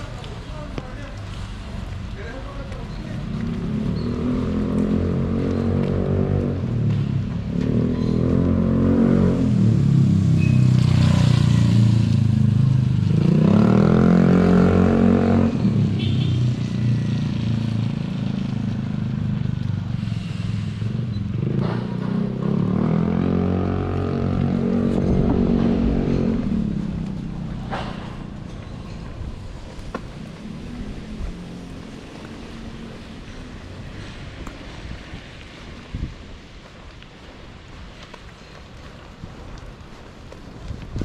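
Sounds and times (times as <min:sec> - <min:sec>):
vehicles driving past: 0:00.0 - 0:41.0.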